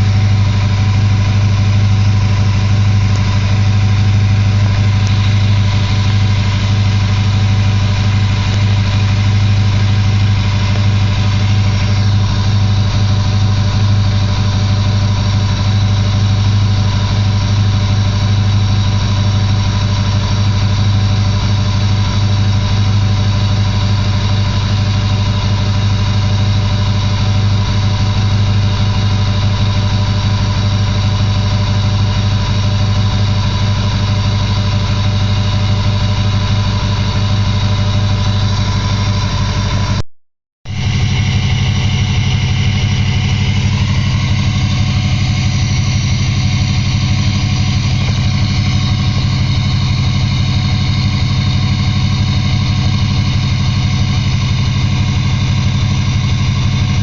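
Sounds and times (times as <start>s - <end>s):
diesel engine idling: 0.0s - 40.0s, 40.7s - 57.0s
high whine: 0.0s - 40.1s, 40.7s - 57.0s.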